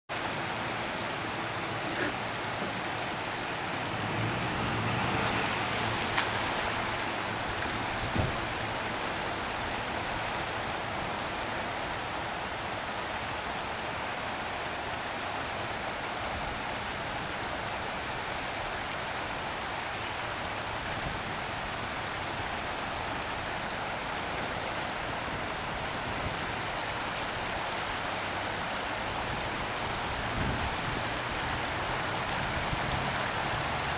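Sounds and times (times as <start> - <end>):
floodwater rushing: 0.1 - 33.9.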